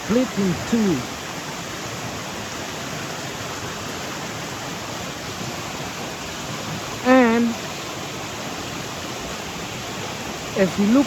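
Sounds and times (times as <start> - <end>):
swollen river rushing: 0.0 - 11.0.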